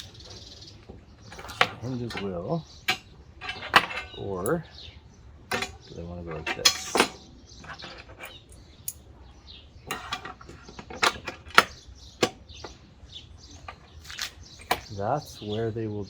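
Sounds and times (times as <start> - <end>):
metal hinges clicking and knocking: 0.0 - 4.6, 5.4 - 9.1, 9.9 - 12.8, 13.4 - 15.1.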